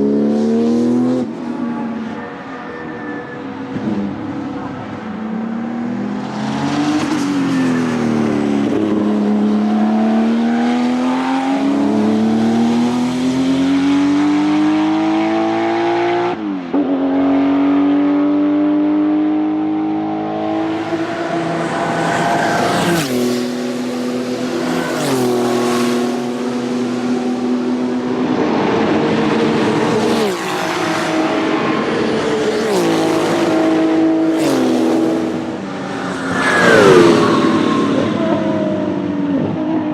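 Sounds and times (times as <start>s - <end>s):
race car engine revving: 3.7s - 39.9s.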